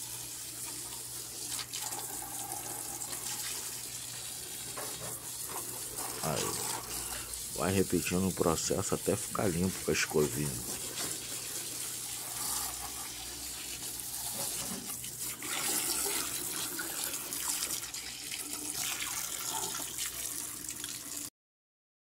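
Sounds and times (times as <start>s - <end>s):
hose spraying water on metal: 0.0s - 21.1s.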